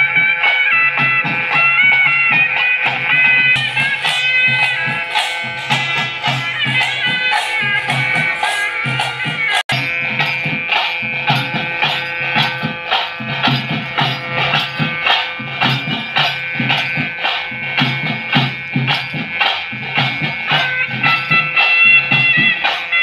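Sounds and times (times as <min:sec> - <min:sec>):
drums beating fast rhythm: 0:00.0 - 0:23.0
steady held tones: 0:02.8 - 0:23.0.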